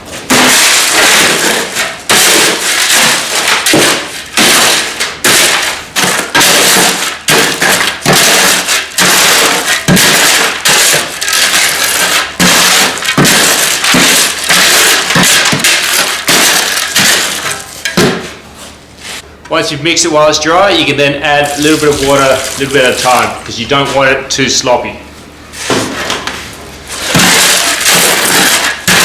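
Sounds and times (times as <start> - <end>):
shovel scraping gravel mix: 0.1 - 19.2, 21.2 - 23.4, 26.9 - 29.0.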